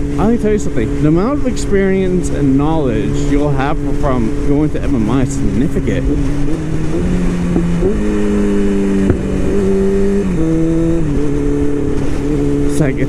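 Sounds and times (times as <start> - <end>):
motorcycle engine running: 0.0 - 13.0
wind noise: 0.0 - 13.0.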